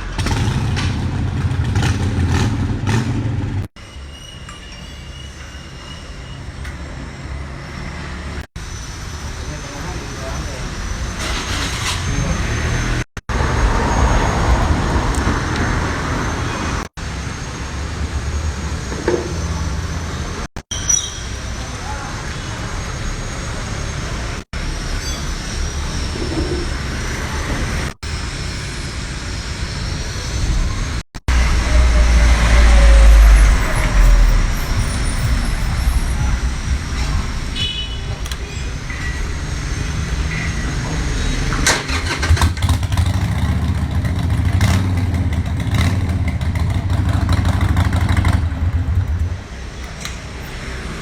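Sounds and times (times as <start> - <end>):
motorcycle engines rumbling: 0.0 - 3.8, 5.4 - 51.0.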